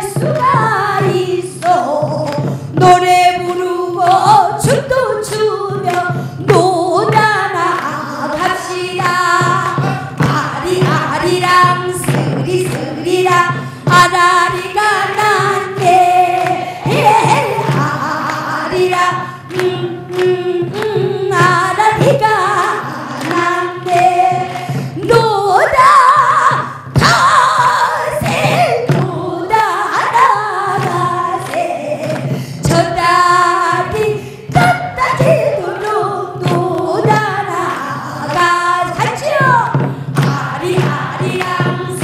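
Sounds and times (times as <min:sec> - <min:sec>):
woman singing with vibrato: 0:00.0 - 0:42.0.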